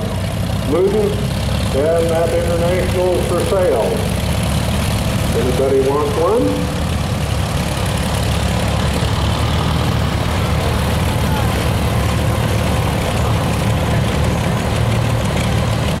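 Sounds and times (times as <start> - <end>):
other tractor engines running: 0.0 - 16.0
tractor engine running: 0.0 - 16.0.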